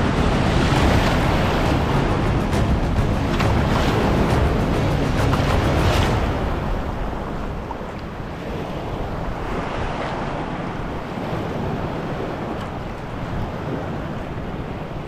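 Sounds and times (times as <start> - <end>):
sea water sloshing and lapping: 0.0 - 15.0
wind rumbling on microphone: 0.0 - 15.0.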